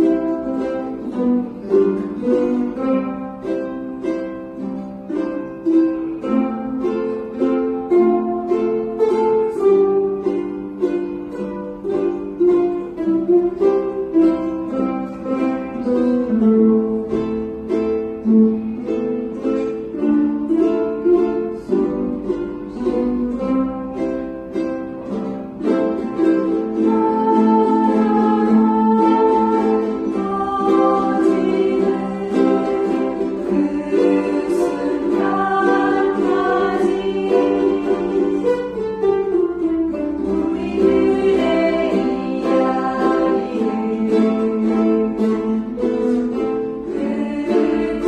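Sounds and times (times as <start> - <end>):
ukulele playing: 0.0 - 48.0.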